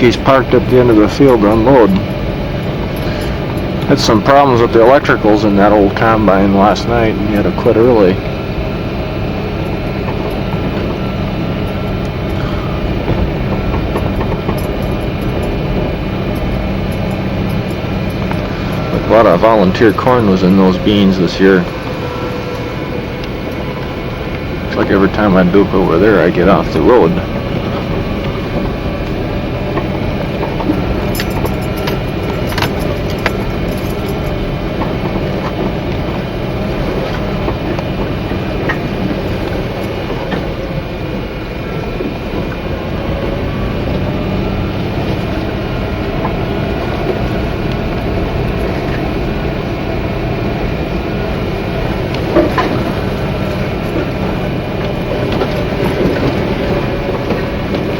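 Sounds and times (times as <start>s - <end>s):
engine drone: 0.0s - 57.9s
light rattles: 0.0s - 57.9s
tyre rumble on dirt road: 0.0s - 57.9s.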